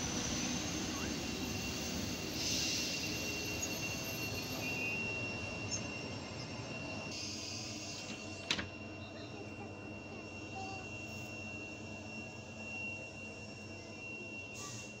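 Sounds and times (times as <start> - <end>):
electric train running: 0.0 - 13.8.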